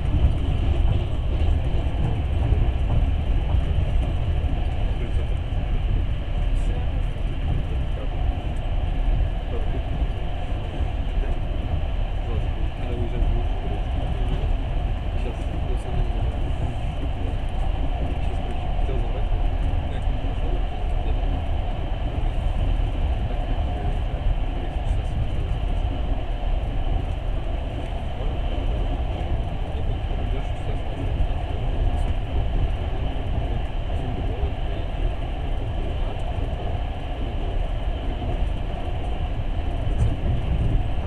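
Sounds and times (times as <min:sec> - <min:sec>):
passenger train rumble from inside: 0:00.0 - 0:41.0.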